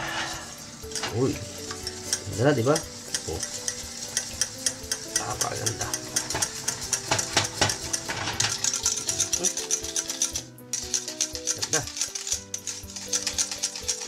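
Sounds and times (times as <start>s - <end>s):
background music: 0.0s - 14.0s
utensil scraping a saucepan: 0.0s - 14.0s.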